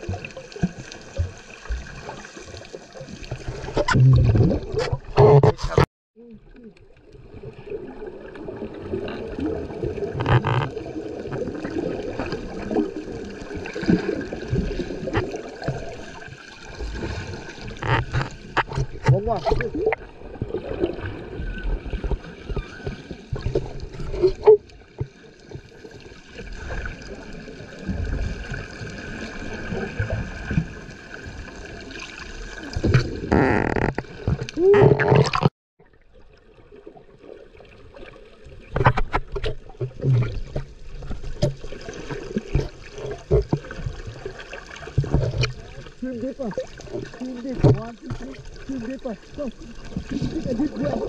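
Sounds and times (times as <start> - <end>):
underwater gurgling and bubbles: 0.0 - 51.0.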